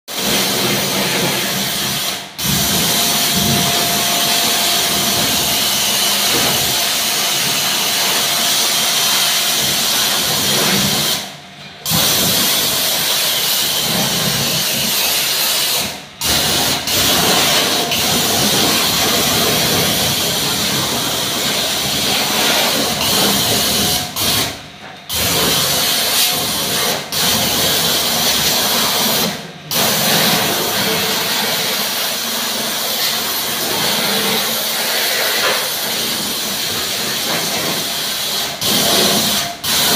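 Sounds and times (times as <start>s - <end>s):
pressure washer spraying water: 0.1s - 39.9s.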